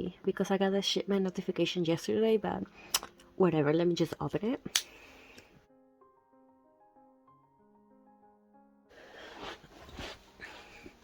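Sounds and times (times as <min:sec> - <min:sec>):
soft slow background music: 0:00.0 - 0:11.0.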